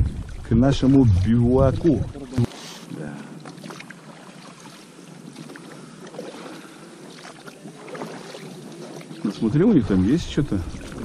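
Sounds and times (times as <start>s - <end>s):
water splashing around rowboat: 0.0s - 11.0s.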